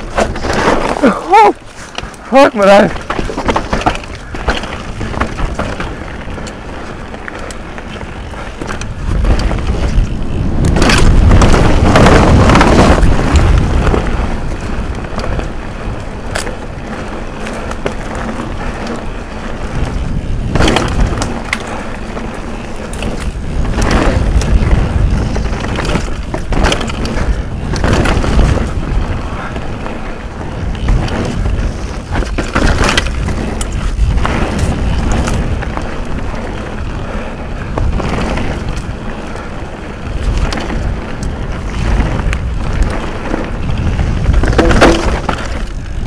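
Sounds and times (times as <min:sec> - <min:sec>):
bike rattling: 0:00.0 - 0:46.0
tyres crunching over stones: 0:00.0 - 0:46.0
wind rushing over camera: 0:00.0 - 0:46.0.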